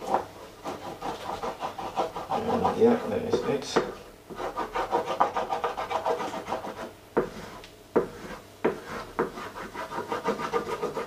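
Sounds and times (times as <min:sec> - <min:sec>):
utensil scraping eggs in a pan: 0:00.0 - 0:11.0.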